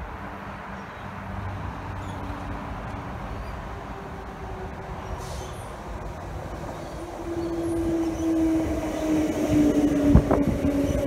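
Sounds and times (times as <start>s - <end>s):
electric train running rumble: 0.0s - 11.0s.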